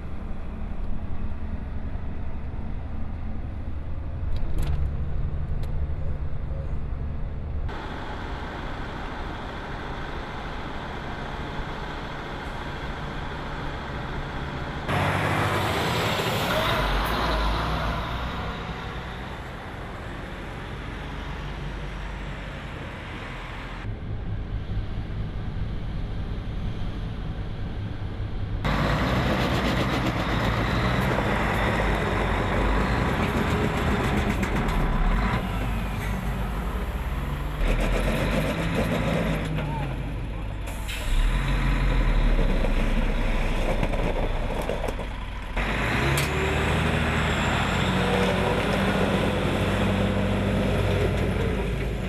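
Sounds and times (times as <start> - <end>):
heavy truck diesel engines: 0.0 - 52.0
road and traffic noise: 0.0 - 52.0.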